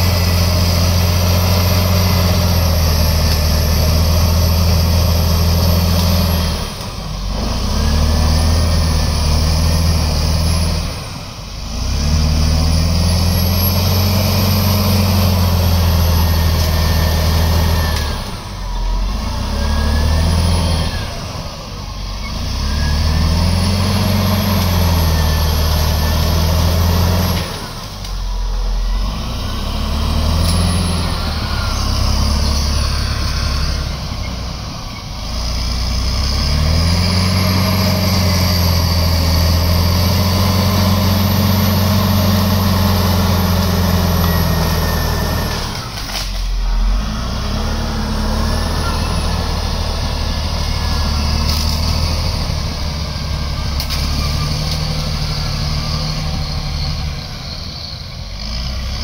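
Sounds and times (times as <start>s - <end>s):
bulldozer diesel engine revving: 0.0s - 59.0s.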